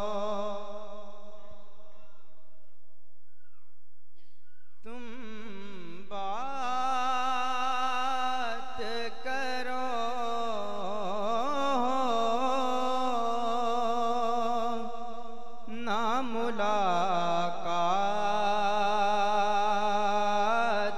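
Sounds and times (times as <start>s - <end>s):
man singing into microphone: 0.0s - 1.7s, 4.8s - 20.9s.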